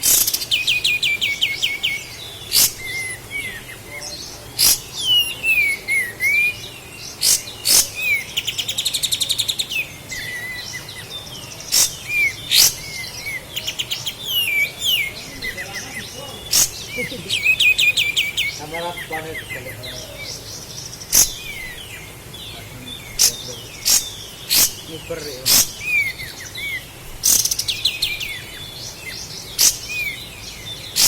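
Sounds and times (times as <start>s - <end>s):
bulbul singing chirps and whistles: 0.0s - 31.0s.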